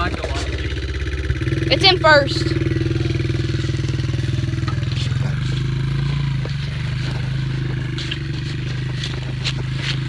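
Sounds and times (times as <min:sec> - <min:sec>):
dirt bike engine idling: 0:00.0 - 0:10.0.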